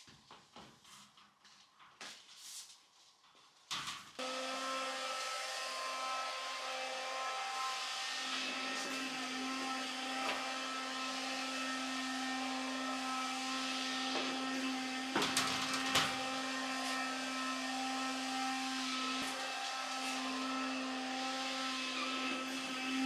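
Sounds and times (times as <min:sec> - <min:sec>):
small electric motor humming: 0:04.2 - 0:23.0.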